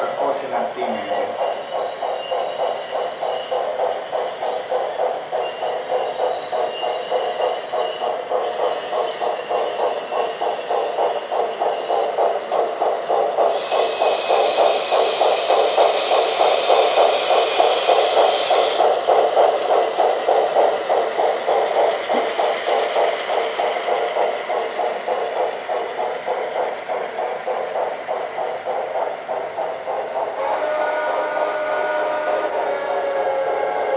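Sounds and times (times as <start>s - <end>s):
loud steam hiss: 0.0s - 33.9s
model train clattering on track: 0.0s - 33.9s.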